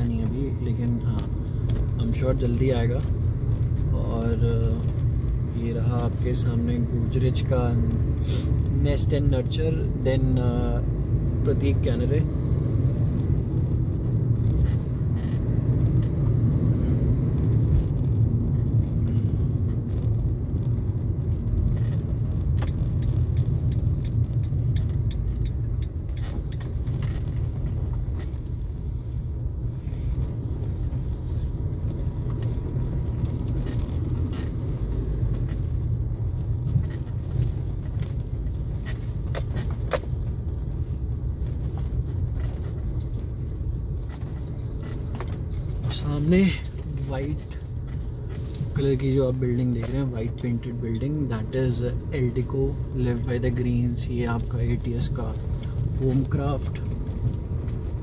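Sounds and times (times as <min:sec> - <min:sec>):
car road noise rumble: 0:00.0 - 0:58.0.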